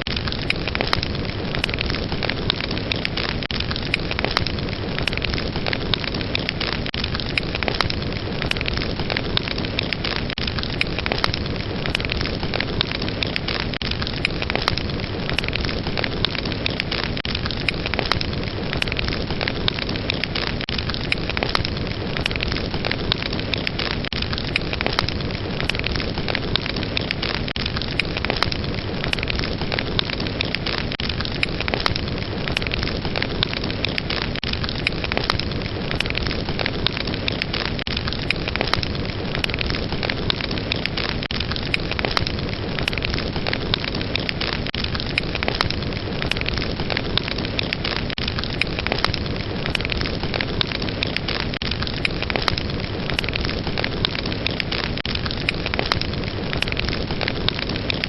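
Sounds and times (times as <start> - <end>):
fire crackling and hissing: 0.0 - 58.0.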